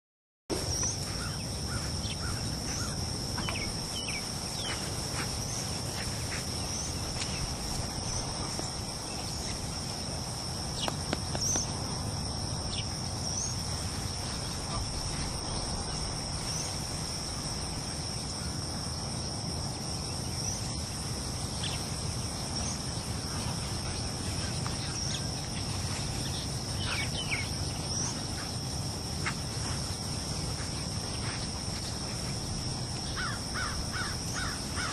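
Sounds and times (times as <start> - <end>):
insect chorus drone: 0.5 - 34.9.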